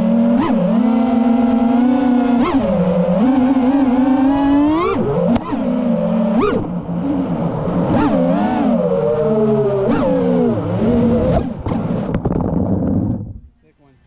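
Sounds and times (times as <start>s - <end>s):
drone motors whining: 0.0s - 13.5s.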